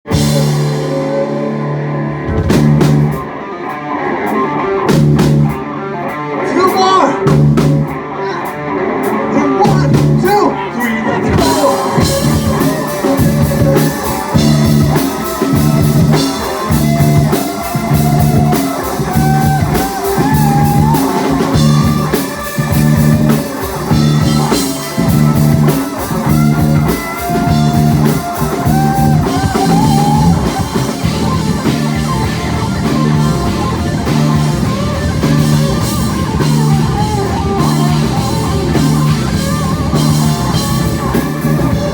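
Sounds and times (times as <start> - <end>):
bass guitar: 0.0 - 41.9
drums and cymbals: 0.1 - 3.4, 4.3 - 41.9
electric guitar solo: 0.1 - 41.9.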